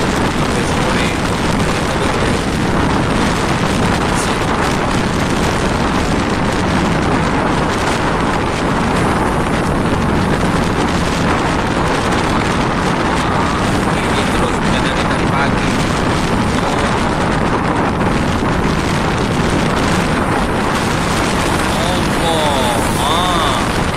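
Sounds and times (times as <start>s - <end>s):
rough sea waves: 0.0s - 23.9s
strong wind on microphone: 0.0s - 23.9s.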